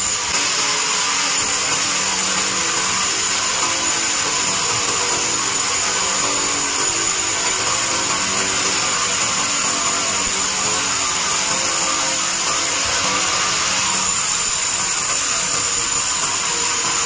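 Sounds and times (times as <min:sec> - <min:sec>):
band saw high-pitched whine: 0:00.0 - 0:17.0
constant rushing noise: 0:00.0 - 0:17.0.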